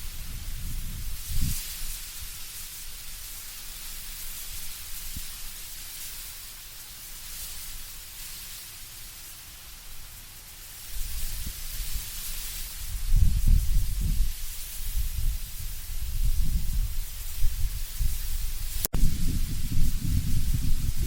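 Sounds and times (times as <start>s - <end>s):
wind rustling leaves: 0.0s - 21.0s.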